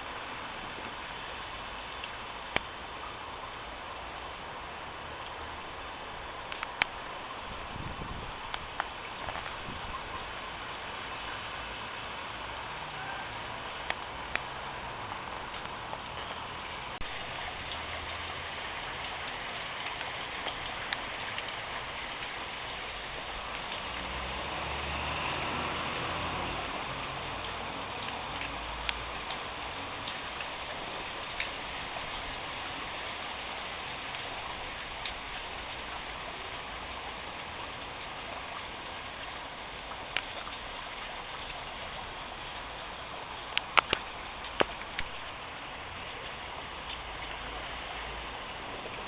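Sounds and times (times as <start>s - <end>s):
heavy rain falling: 0.0s - 49.0s
sharp drips: 0.0s - 49.0s.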